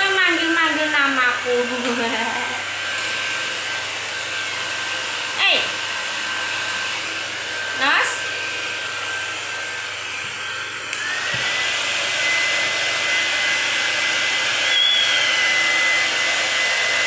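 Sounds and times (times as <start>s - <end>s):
blow dryer running: 0.0s - 17.0s.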